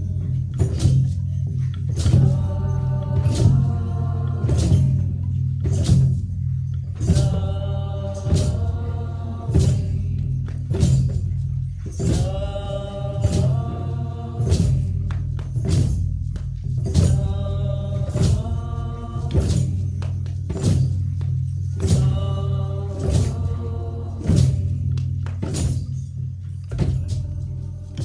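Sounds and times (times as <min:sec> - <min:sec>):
low drone: 0:00.0 - 0:28.0
percussion strokes: 0:00.0 - 0:28.0
group singing a slow chant: 0:01.8 - 0:06.2, 0:06.9 - 0:15.9, 0:16.8 - 0:25.8, 0:26.7 - 0:28.0.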